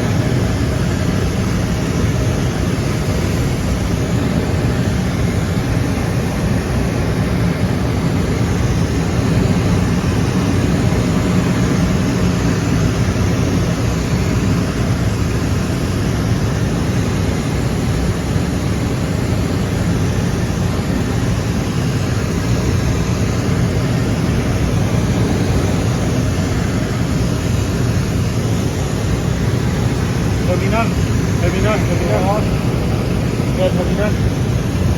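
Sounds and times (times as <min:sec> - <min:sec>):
aeroplane cabin noise: 0:00.0 - 0:34.9.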